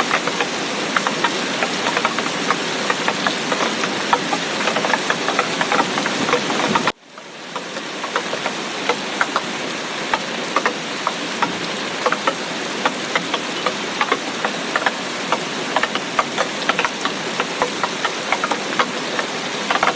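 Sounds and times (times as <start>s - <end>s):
heavy rain hiss: 0.0s - 19.9s
raindrops tapping hard surface: 0.0s - 19.9s.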